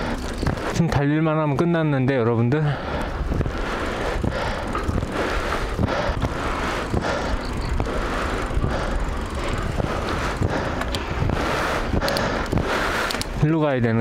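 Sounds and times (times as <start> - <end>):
bicycle tyre rumble: 0.0 - 14.0
wind rushing over microphone: 2.3 - 13.9.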